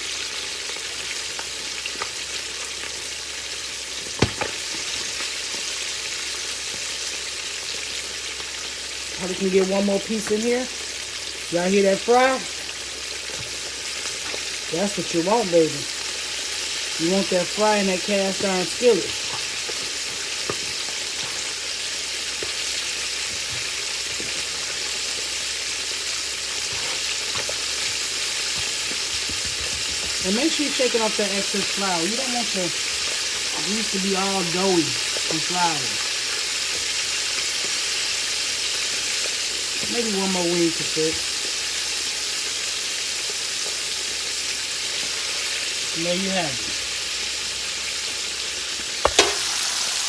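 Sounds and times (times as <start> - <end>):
chicken frying in oil: 0.0 - 50.0.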